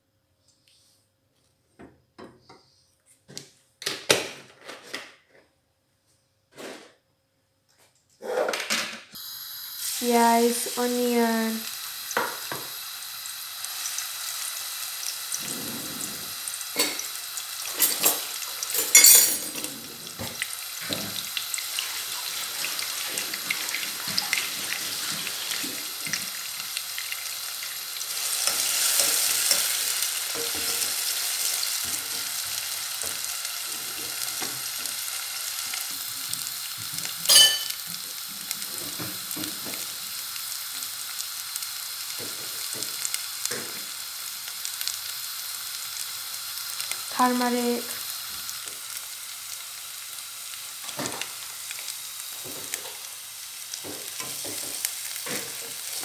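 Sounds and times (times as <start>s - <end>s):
onion sizzling in hot oil: 9.2s - 56.0s.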